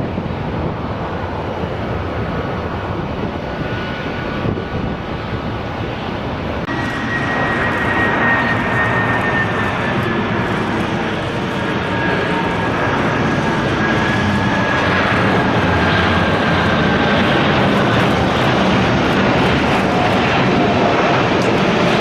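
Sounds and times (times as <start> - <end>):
high engine whine: 0.0 - 22.0
jet engines rushing: 0.0 - 22.0.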